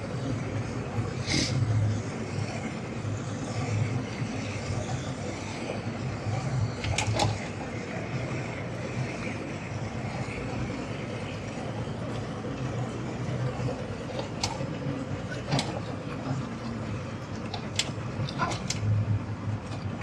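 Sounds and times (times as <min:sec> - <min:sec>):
outboard motors running: 0:00.0 - 0:20.0.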